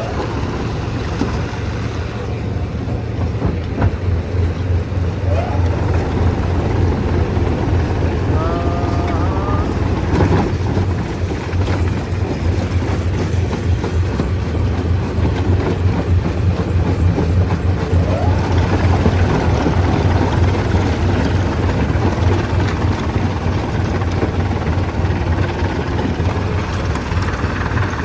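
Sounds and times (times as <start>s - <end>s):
stone crusher engine droning: 0.0s - 28.0s.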